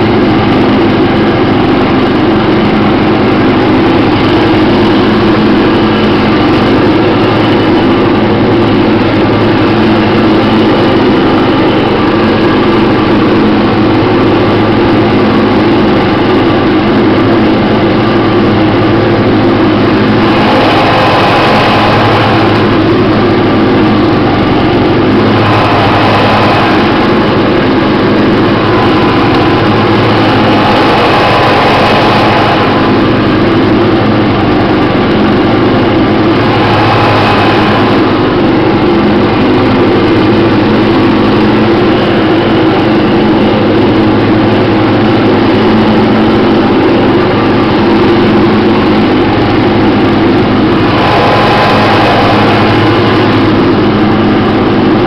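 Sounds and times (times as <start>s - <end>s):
lawn tractor engine running: 0.0s - 55.0s
mower blades whirring: 0.0s - 55.0s.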